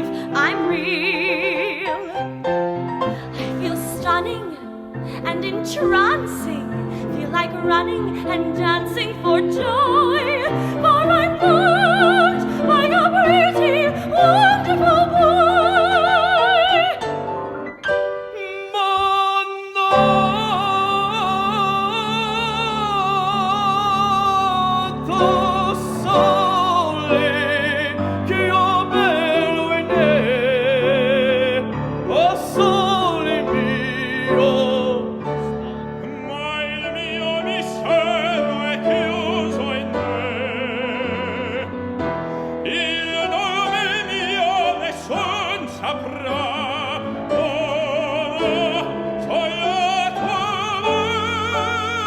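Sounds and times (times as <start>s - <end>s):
operatic singing: 0.0s - 52.0s
piano accompaniment: 0.0s - 52.0s.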